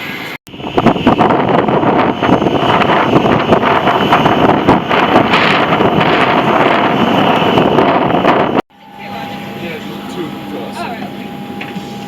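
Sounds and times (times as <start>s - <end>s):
wind buffeting microphone: 0.5s - 10.7s.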